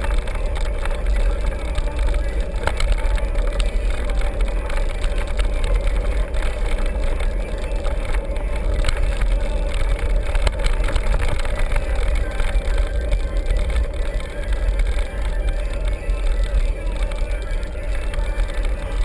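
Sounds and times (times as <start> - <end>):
small clicks and rattles: 0.0 - 19.0
wind rumble on microphone: 0.0 - 19.0.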